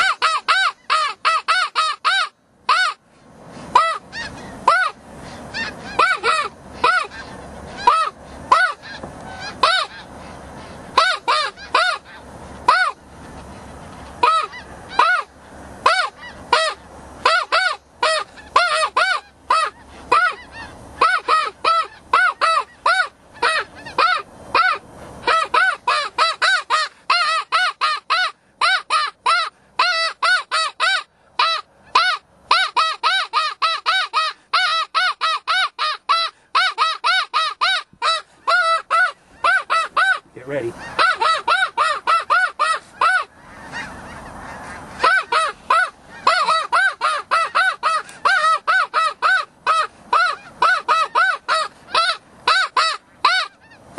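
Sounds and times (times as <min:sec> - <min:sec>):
goose honking: 0:00.0 - 0:03.0, 0:03.7 - 0:13.0, 0:14.2 - 0:53.9.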